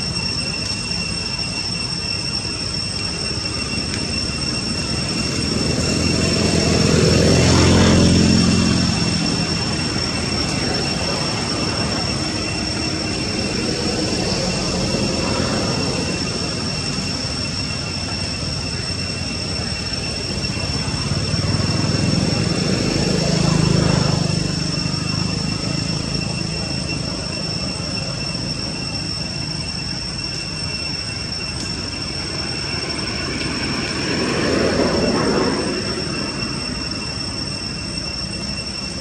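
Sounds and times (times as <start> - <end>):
high-pitched drone: 0.0 - 39.0
passing engine: 3.4 - 39.0.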